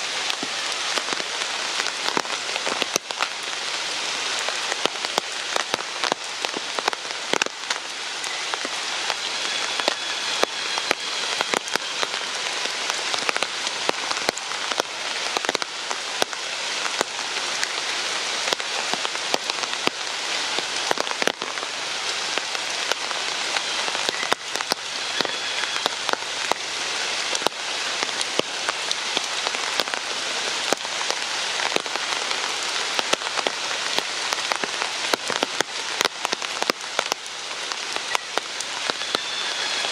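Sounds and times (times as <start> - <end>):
rain drops ticking on surfaces: 0.0 - 39.9.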